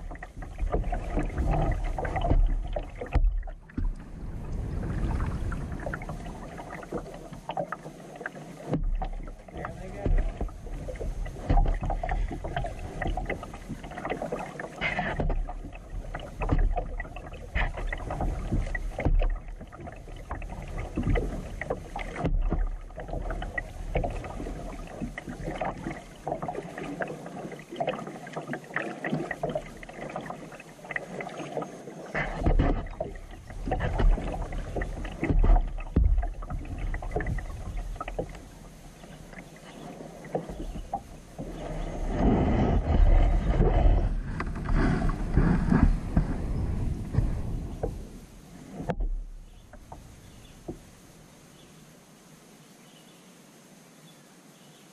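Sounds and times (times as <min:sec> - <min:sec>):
paddle splashes and drips: 0:00.0 - 0:51.8.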